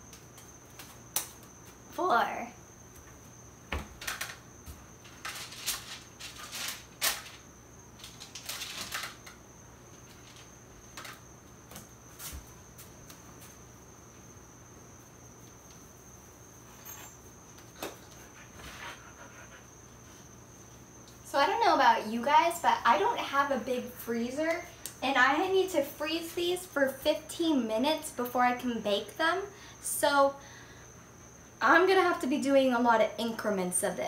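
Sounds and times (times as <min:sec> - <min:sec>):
faint high-pitched whine: 0:00.0 - 0:34.0.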